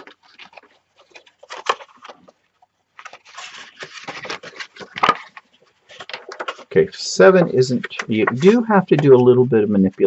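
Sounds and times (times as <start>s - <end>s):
cardboard rustling: 0.0s - 9.5s.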